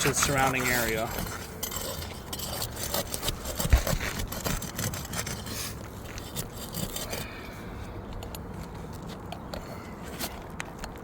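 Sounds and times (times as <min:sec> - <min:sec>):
pry bar scraping under shingles: 0:00.0 - 0:11.0.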